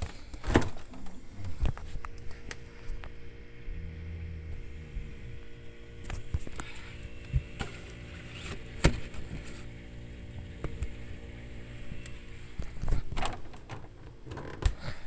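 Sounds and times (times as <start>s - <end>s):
refrigerator humming: 0.0s - 15.0s.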